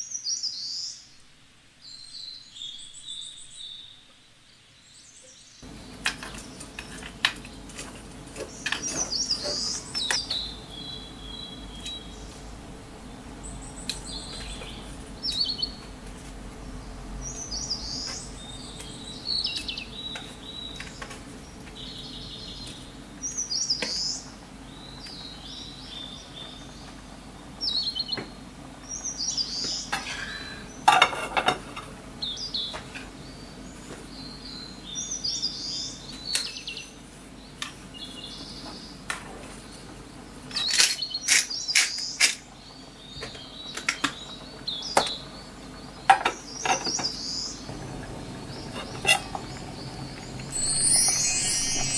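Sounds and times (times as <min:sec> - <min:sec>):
songbirds chirping: 0:00.0 - 0:31.1, 0:31.8 - 0:51.9.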